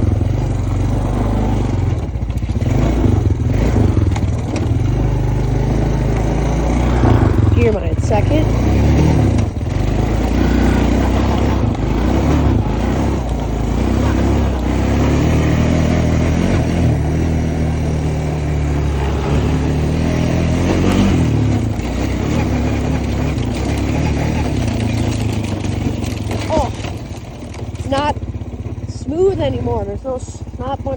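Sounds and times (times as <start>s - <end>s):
four-wheeler engine revving: 0.0s - 30.9s.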